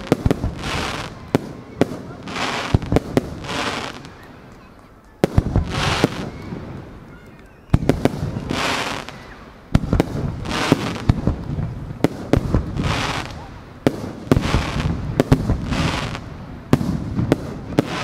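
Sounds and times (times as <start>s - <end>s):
fireworks bangs: 0.0s - 18.0s
fireworks hiss: 0.0s - 18.0s.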